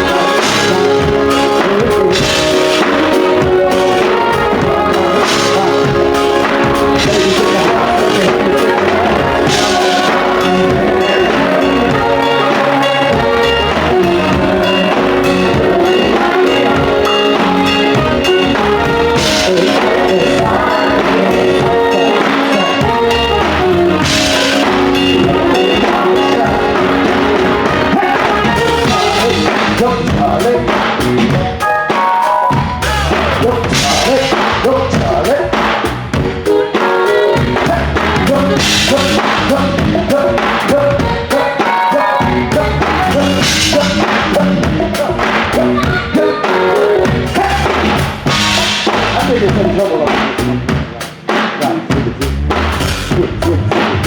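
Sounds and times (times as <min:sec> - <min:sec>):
band music: 0:00.0 - 0:54.0.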